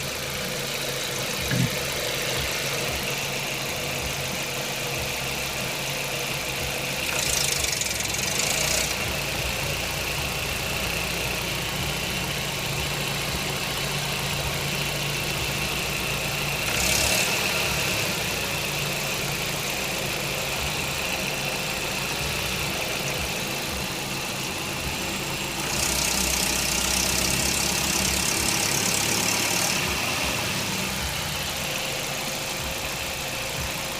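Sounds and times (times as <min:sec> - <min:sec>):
petrol engine knocking at low revs: 0:00.0 - 0:33.9.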